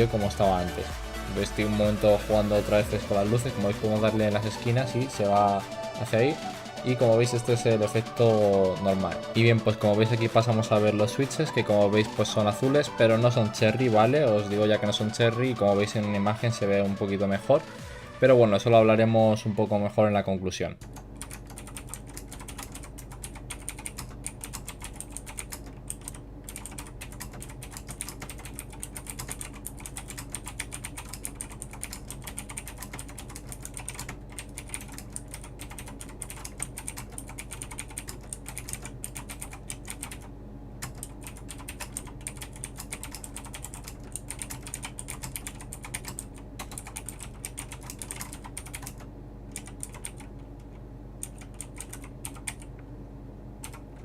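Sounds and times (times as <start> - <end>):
faint low hum: 0.0 - 54.0
mechanical keyboard typing: 2.4 - 17.1, 20.8 - 50.4, 51.2 - 52.7, 53.6 - 54.0.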